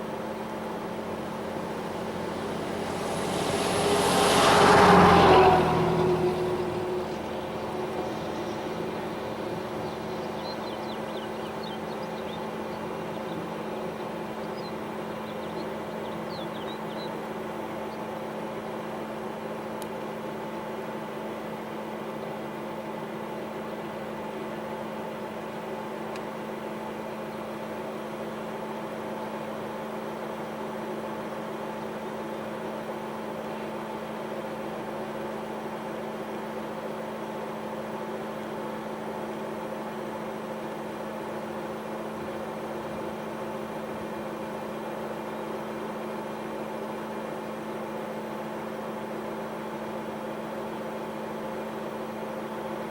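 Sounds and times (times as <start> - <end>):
steady mechanical hum: 0.0 - 52.9.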